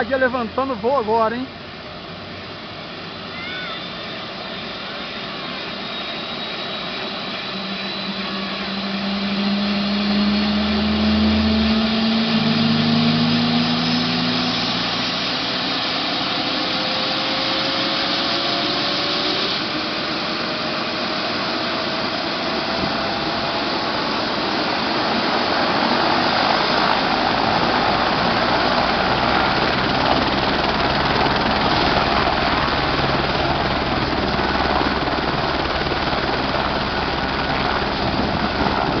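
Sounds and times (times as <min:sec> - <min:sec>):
helicopter engine and rotor: 0:00.0 - 0:39.0
turbine whine rising in pitch: 0:00.0 - 0:39.0.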